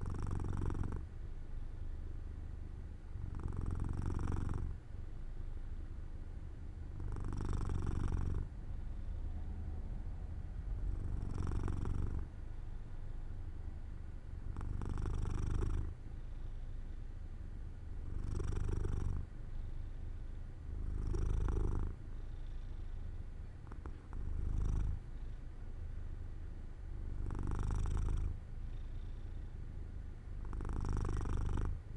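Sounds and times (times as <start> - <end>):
cat purring: 0.0 - 5.2, 5.9 - 31.9.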